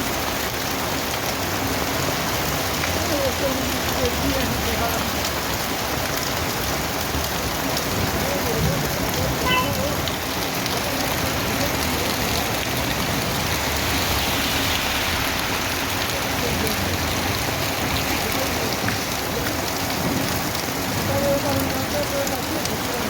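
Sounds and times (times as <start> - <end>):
rain on hard surfaces: 0.0 - 23.0.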